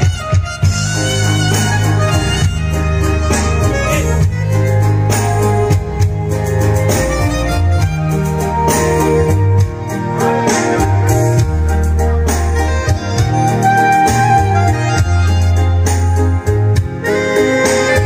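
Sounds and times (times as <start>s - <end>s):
music with heavy bass over loudspeakers: 0.0s - 18.0s.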